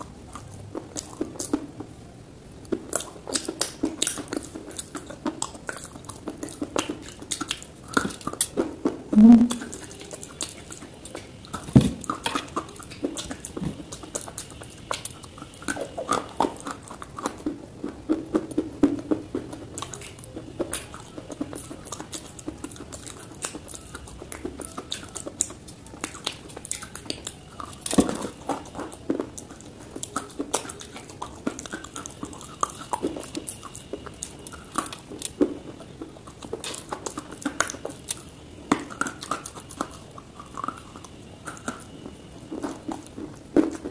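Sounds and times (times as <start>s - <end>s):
crunching and chewing clay: 0.0s - 43.9s.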